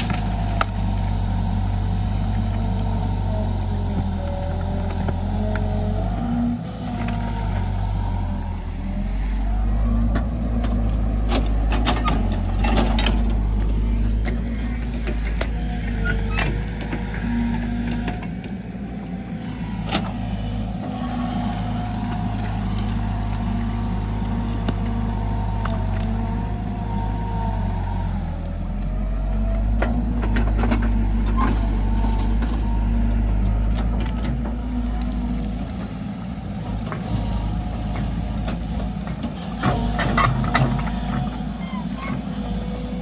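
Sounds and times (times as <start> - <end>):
excavator diesel engine: 0.0 - 43.0.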